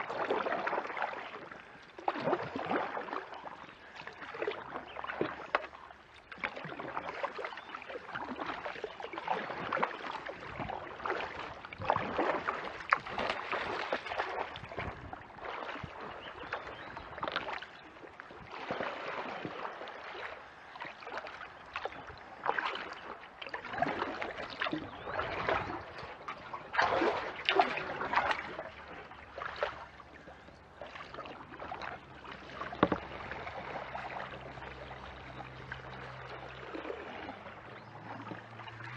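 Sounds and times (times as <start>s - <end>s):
kayak paddle splashing in water: 0.0s - 38.9s.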